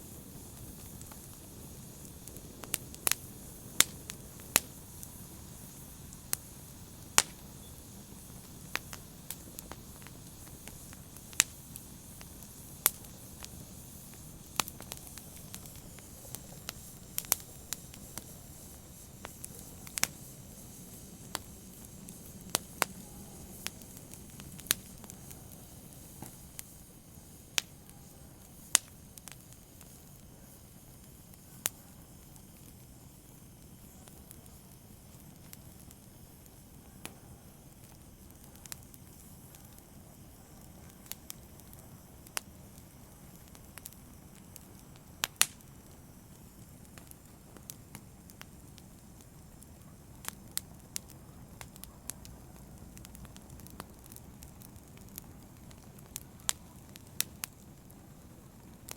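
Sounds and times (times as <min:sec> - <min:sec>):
open fire crackling: 0:00.0 - 0:58.9.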